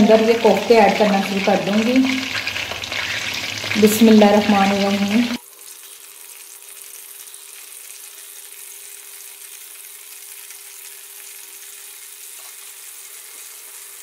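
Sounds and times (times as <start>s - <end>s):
meatballs sizzling in oil: 0.0s - 14.0s.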